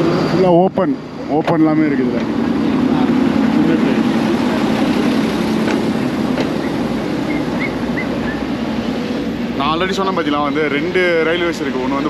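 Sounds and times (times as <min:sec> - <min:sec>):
diesel train rumbling past: 0:00.0 - 0:12.0.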